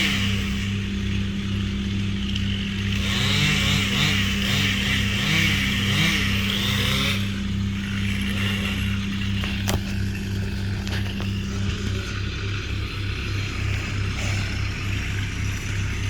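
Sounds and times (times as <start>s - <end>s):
chainsaw-like cutting noise: 0.0s - 16.0s
engine running: 0.0s - 16.0s.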